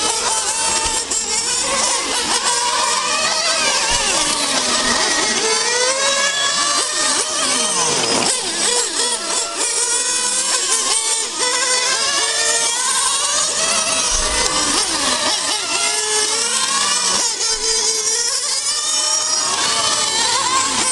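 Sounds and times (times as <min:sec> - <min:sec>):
model racing car motors: 0:00.0 - 0:20.9.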